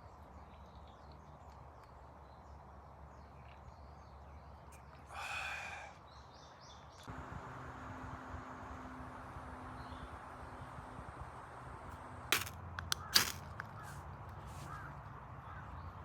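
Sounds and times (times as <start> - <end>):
woodland ambience: 0.0 - 16.0.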